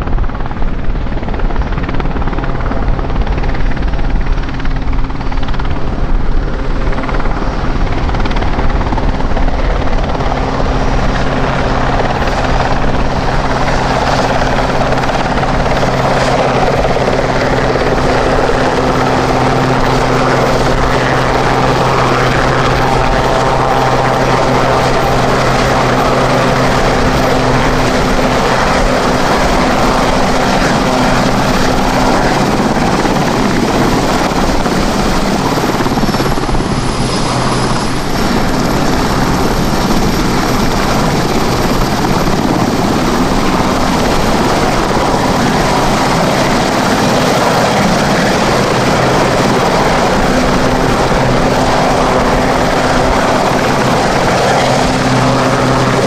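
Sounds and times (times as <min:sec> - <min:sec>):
helicopter rotor noise: 0:00.0 - 0:56.0
turbine engine whine: 0:00.0 - 0:56.0.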